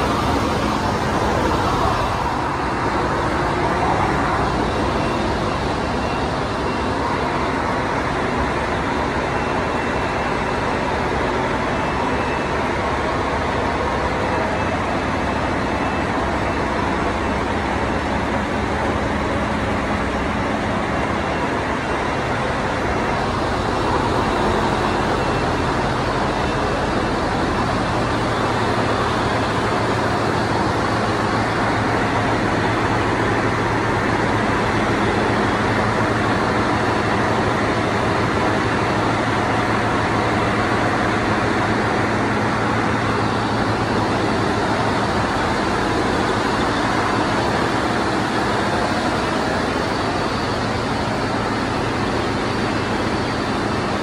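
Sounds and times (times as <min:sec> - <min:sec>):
engine room machinery: 0:00.0 - 0:54.0.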